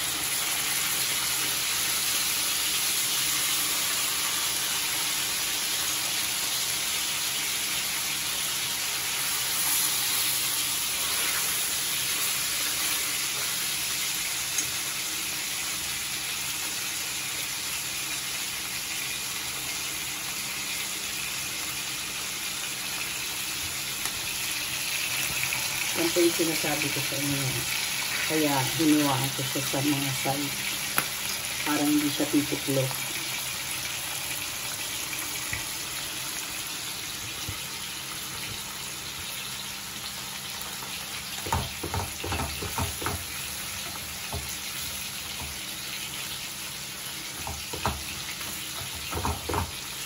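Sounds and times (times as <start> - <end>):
fish frying sizzle: 0.0 - 50.0
meat and onion sauteing: 0.0 - 50.0.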